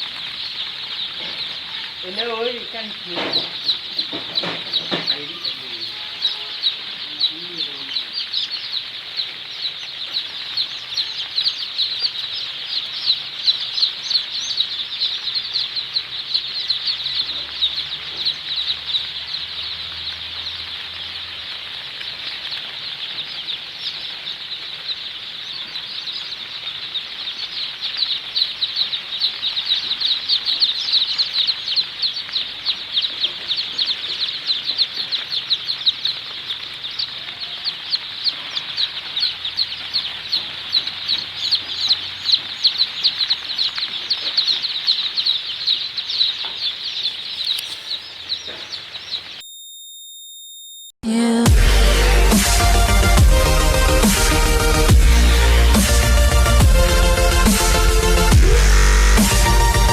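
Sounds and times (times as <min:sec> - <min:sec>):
chicks peeping: 0:00.0 - 0:49.5, 0:51.1 - 0:59.9.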